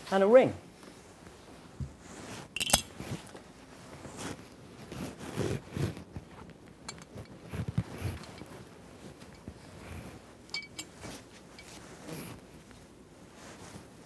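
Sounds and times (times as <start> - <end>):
cloth rustling: 0.8 - 14.0.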